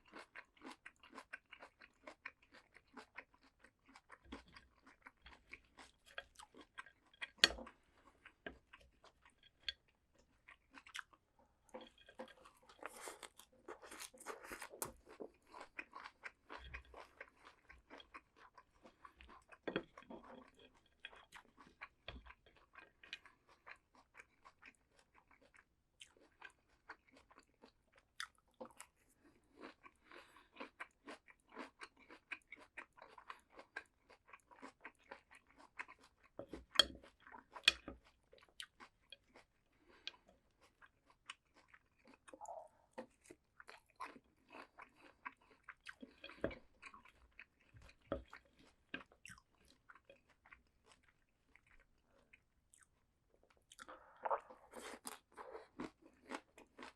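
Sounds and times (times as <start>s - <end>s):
crunchy vegetables being chewed: 0.0s - 56.9s.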